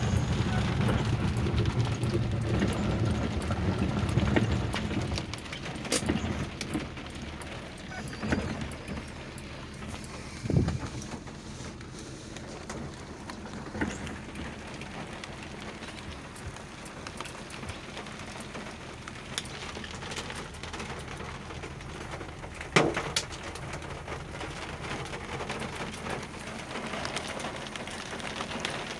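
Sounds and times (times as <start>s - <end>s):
hail and rain pelting a car: 0.0s - 28.9s.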